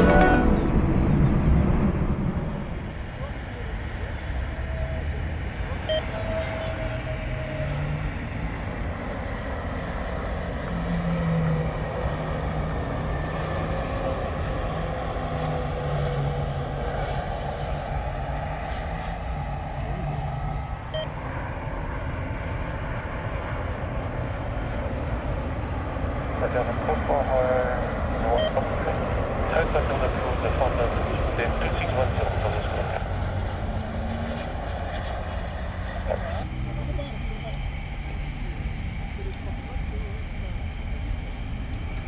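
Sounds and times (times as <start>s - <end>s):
jet engines running: 0.0s - 42.0s.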